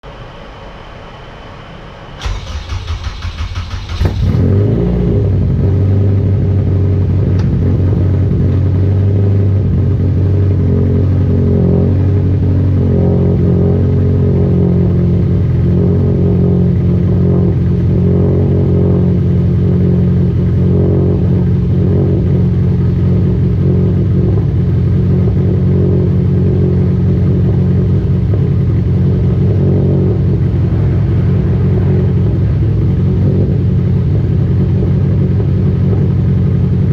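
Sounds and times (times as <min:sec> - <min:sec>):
car engine cranking and idling: 0:02.2 - 0:36.9.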